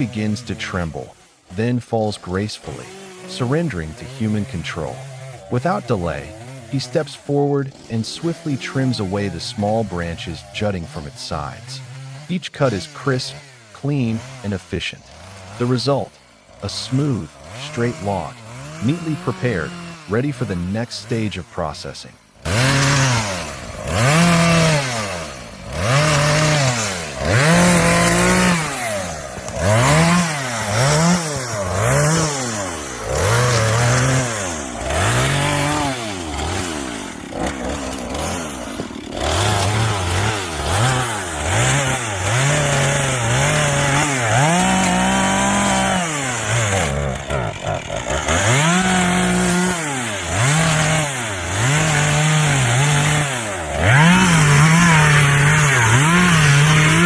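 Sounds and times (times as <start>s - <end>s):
chainsaw revving cutting wood: 0.0s - 57.0s.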